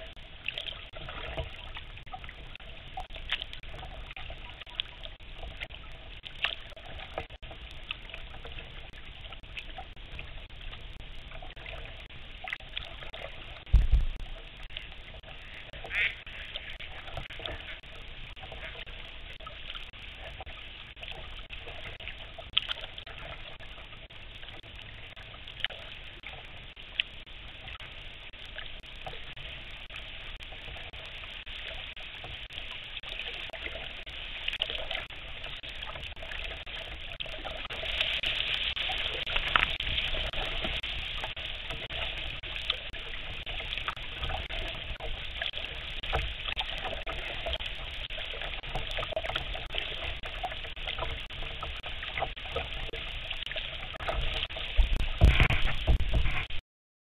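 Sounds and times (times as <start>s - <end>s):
water trickling and splashing: 0.0s - 56.6s.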